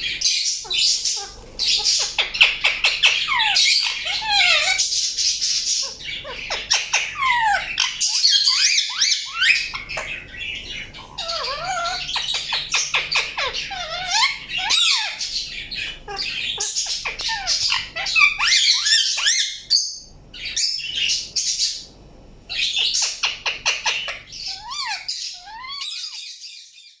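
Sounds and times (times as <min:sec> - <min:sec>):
parakeet chirping and squawking: 0:00.0 - 0:26.9.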